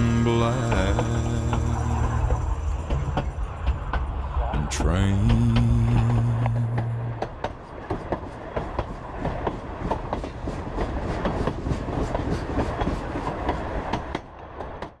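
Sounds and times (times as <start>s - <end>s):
rumble and rattle of train car: 0.0s - 15.0s
train wheels clicking over rail joints: 0.0s - 15.0s.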